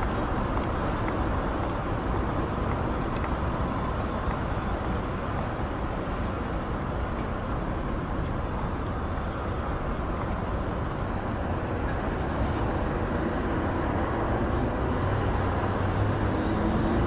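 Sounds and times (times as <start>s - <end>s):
distant motorway traffic: 0.0s - 17.0s.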